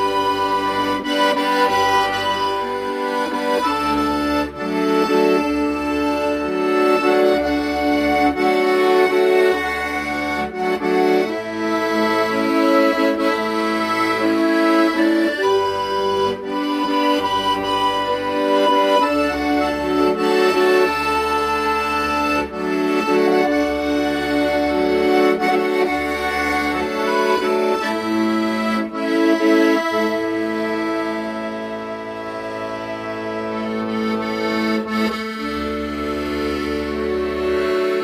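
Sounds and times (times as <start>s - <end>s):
accordion playing slow melody: 0.0s - 38.0s.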